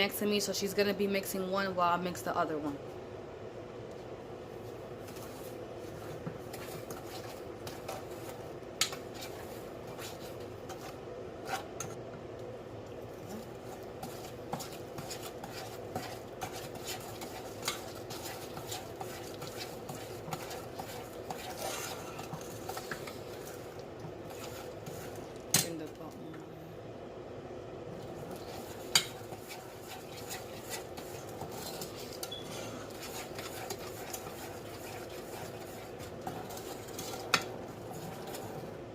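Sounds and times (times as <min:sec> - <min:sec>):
steady low hum: 0:00.0 - 0:38.9
spoons stirring and scraping saucepans: 0:04.5 - 0:12.0, 0:12.9 - 0:26.2, 0:28.0 - 0:38.9.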